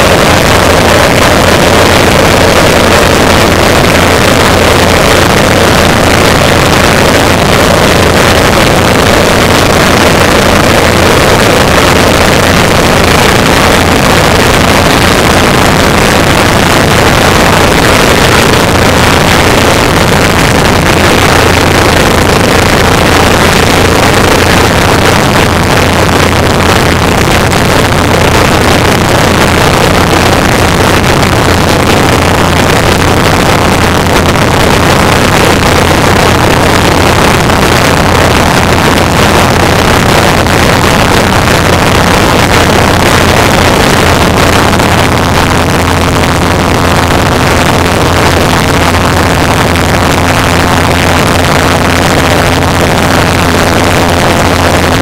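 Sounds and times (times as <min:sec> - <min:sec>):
pulse jet engines running: 0:00.0 - 0:55.0.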